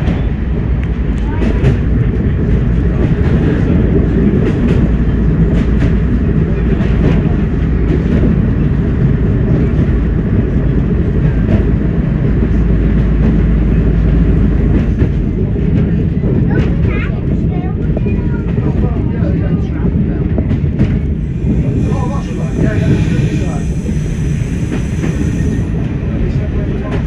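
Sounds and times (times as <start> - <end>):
train diesel engine drone: 0.0 - 27.0
train wheels clicking over track: 0.0 - 27.0.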